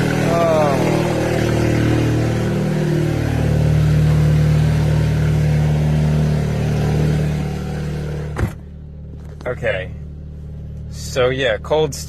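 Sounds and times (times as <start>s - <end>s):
car engine idling high: 0.0s - 12.0s.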